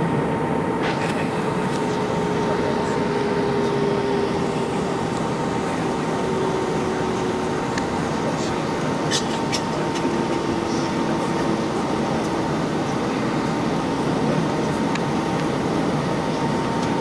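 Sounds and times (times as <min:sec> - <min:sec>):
airliner cabin rush: 0:00.7 - 0:17.0.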